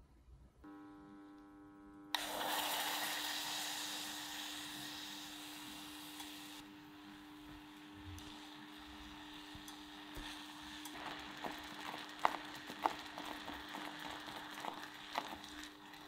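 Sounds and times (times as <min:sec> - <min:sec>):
electric hob humming: 0:00.6 - 0:16.0
puree sizzling in saucepan: 0:02.2 - 0:16.0.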